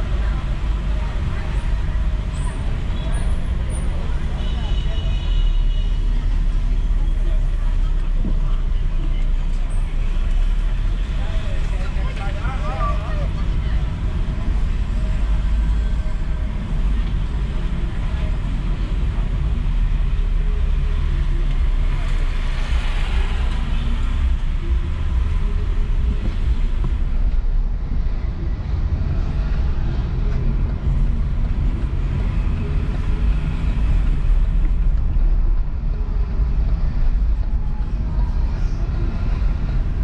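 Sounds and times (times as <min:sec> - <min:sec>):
car engine and road rumble: 0:00.0 - 0:40.0
passing traffic: 0:00.0 - 0:40.0.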